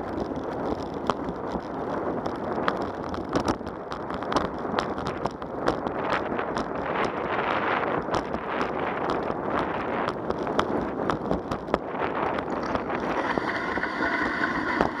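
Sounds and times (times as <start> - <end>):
bicycle rattling over cracks: 0.0 - 13.6
wind buffeting microphone: 0.0 - 15.0.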